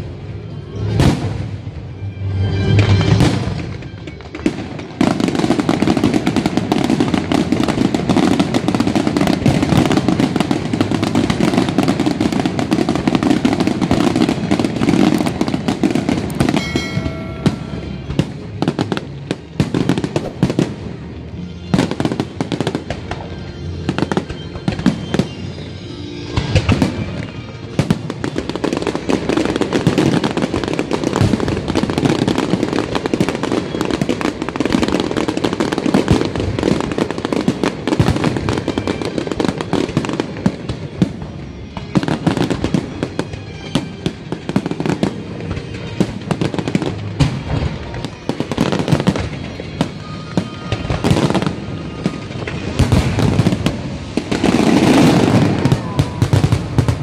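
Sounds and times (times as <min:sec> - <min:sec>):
music playing: 0:00.0 - 0:36.3, 0:36.9 - 0:57.0
fireworks bangs and crackle: 0:00.0 - 0:57.0.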